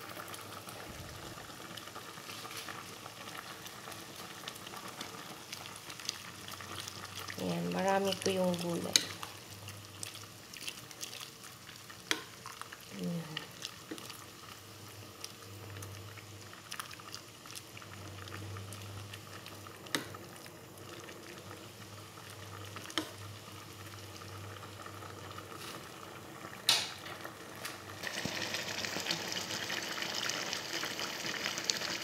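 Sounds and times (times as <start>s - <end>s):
low steady hum: 0.0s - 28.0s
broth simmering and bubbling: 0.0s - 32.0s.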